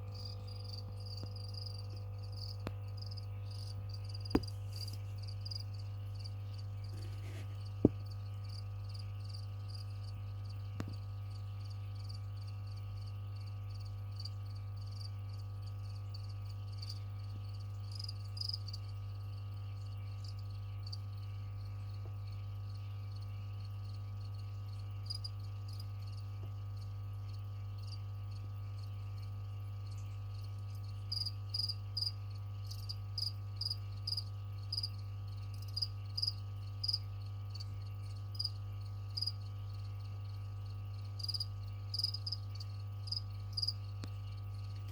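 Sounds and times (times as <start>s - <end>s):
crickets chirping: 0.0s - 44.9s
steady low hum: 0.0s - 44.9s.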